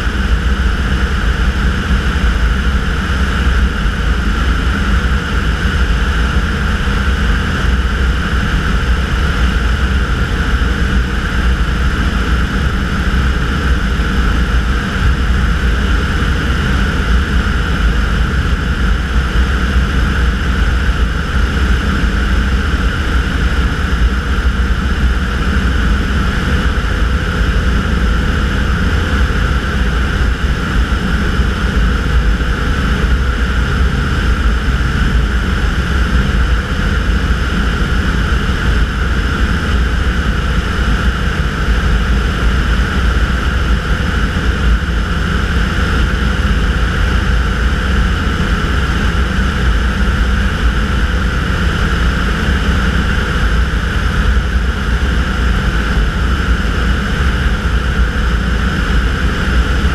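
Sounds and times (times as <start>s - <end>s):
propeller engine droning: 0.0s - 59.9s.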